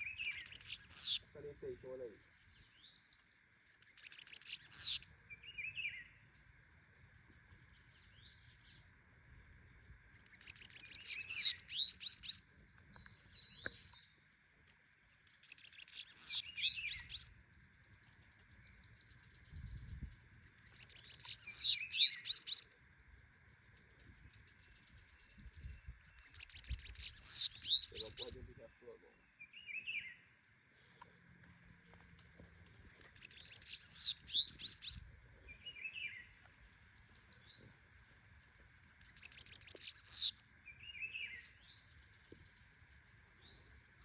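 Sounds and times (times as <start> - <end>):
bird singing high-pitched song: 0.0 - 8.9, 9.8 - 31.0, 31.6 - 44.0.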